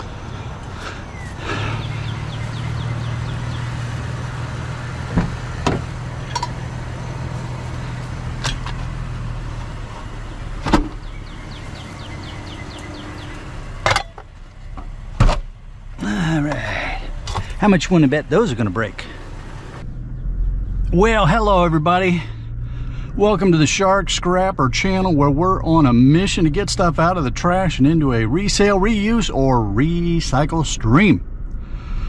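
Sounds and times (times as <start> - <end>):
vehicle idling: 0.0 - 32.0.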